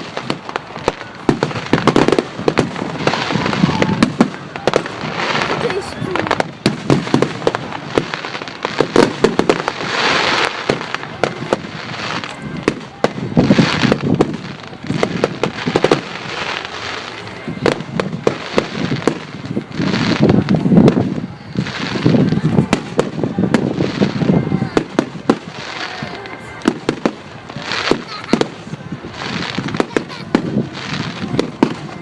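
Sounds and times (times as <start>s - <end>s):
fireworks bangs and pops: 0.0s - 32.0s
fireworks crackling: 0.0s - 32.0s.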